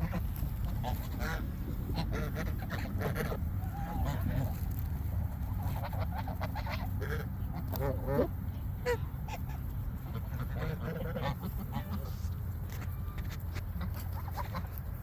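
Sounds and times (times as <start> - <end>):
waterfowl calling: 0.0 - 4.6, 5.3 - 15.0
steady low rumble: 0.0 - 15.0.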